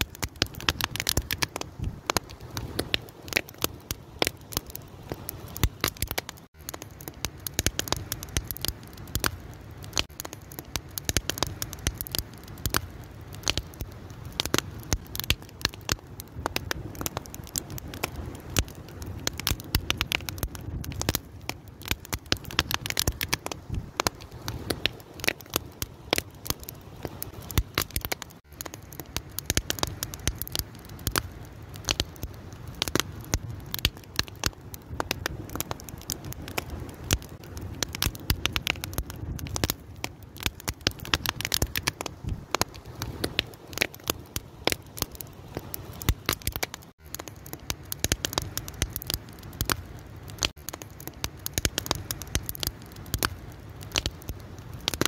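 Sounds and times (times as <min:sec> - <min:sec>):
open fire crackling: 0:00.0 - 0:55.0.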